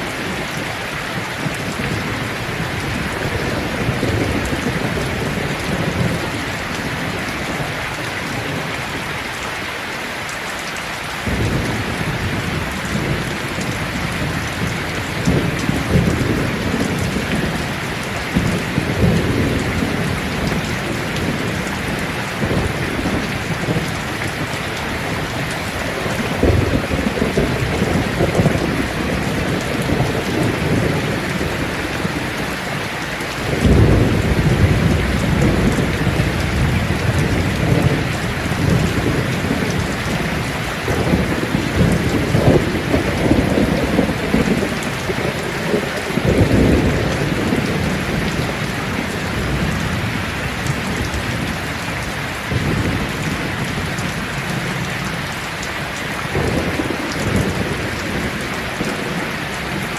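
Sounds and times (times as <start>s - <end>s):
low rolling thunder: 0.0s - 8.8s, 11.2s - 32.7s, 33.4s - 55.3s, 56.2s - 59.9s
rain pattering on leaves: 0.0s - 59.9s.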